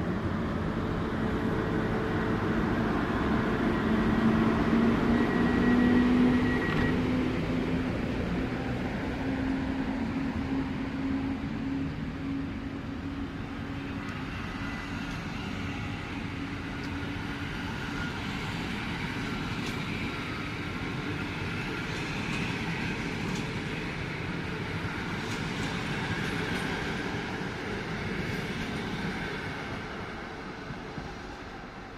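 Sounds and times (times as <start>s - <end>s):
train rumbling on rails: 0.0s - 31.9s.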